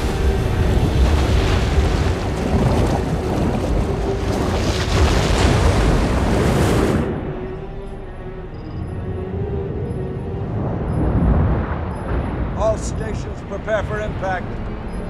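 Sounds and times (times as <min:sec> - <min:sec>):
flood water rushing and crashing: 0:00.0 - 0:07.8, 0:09.8 - 0:15.0.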